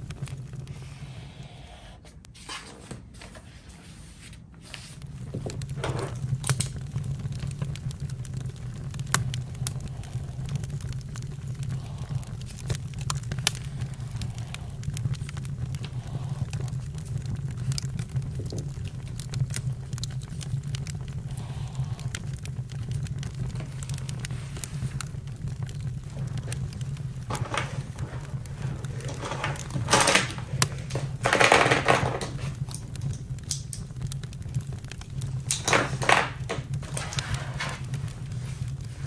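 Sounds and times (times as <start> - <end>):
campfire crackling: 0.0 - 1.9, 4.6 - 39.0.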